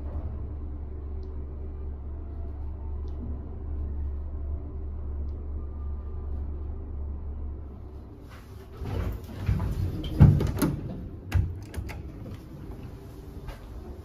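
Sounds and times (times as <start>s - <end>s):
elevator hum: 0.0s - 14.0s.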